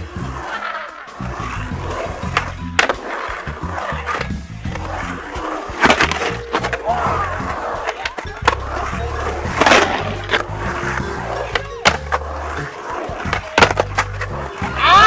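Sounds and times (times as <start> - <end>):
background music: 0.0 - 15.0
skateboard knocking on coping: 0.0 - 15.0
skateboard wheels rolling on concrete: 0.0 - 15.0.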